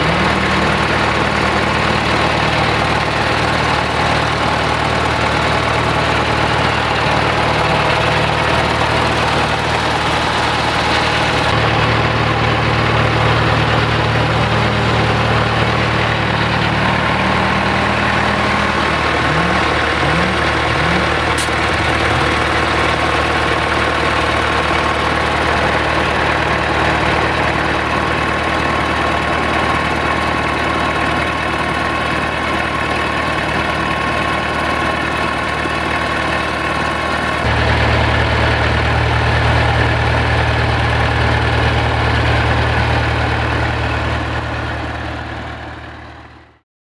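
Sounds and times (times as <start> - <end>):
diesel tractor engine idling: 0.0 - 46.6.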